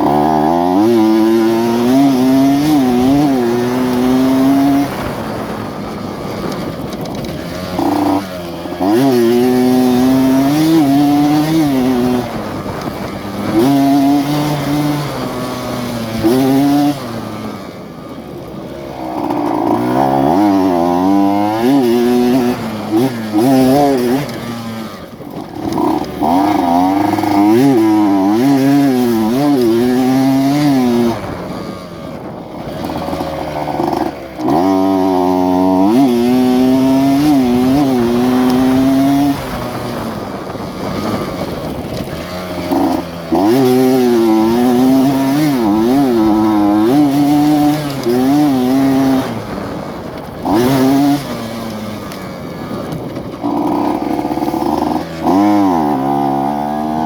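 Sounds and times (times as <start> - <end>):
two-stroke motorcycle revving: 0.0 - 57.0.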